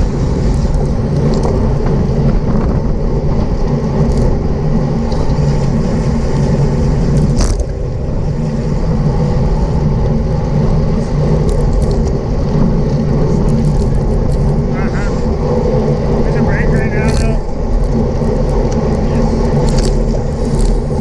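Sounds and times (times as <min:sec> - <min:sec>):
bike tyre noise on road: 0:00.0 - 0:21.0
wind rumble on microphone: 0:00.0 - 0:21.0.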